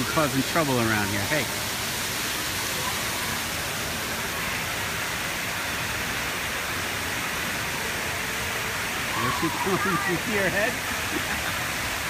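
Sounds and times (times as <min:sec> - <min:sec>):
water rushing into a pool: 0:00.0 - 0:12.0.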